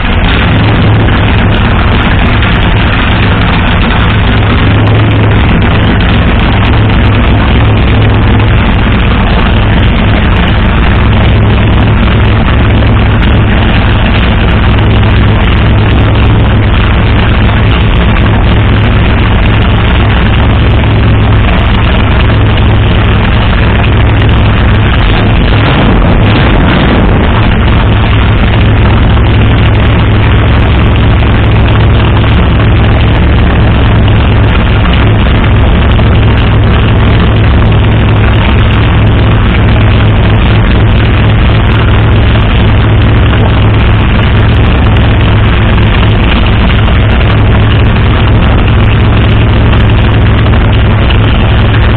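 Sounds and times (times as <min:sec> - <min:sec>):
loud car engine idling: 0:00.0 - 0:51.9.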